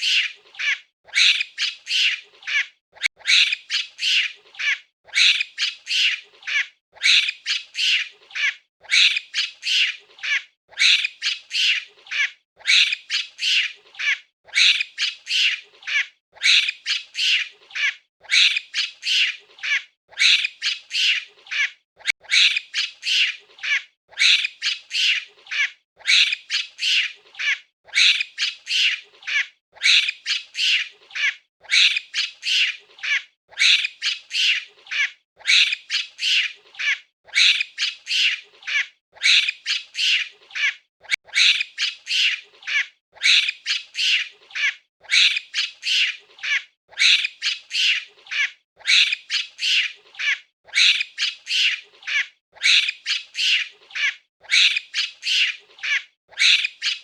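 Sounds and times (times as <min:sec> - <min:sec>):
monkey high-pitched calls: 0:00.0 - 0:57.0.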